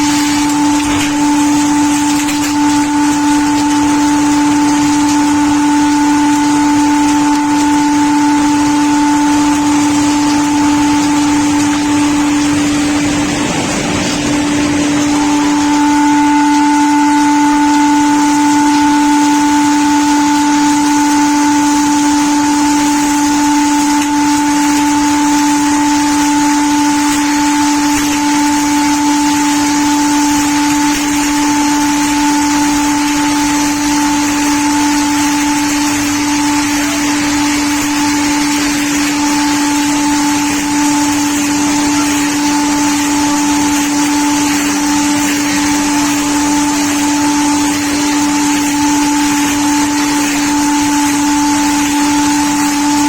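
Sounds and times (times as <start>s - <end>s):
saw blades high-pitched whine: 0.0s - 53.0s.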